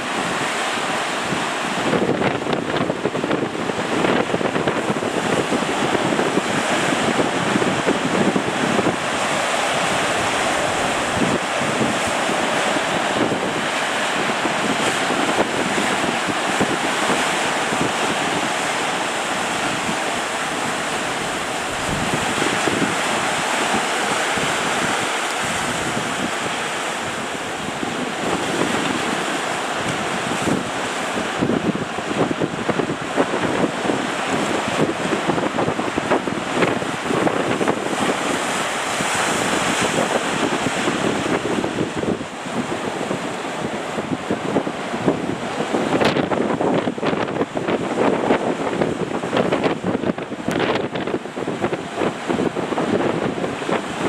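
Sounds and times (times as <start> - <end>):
ocean waves breaking: 0.0 - 54.0
wind buffeting microphone: 0.0 - 54.0.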